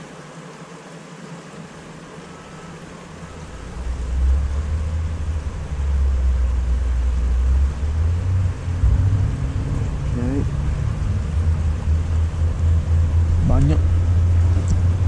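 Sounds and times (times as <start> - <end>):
loud low rumble: 2.4 - 15.0.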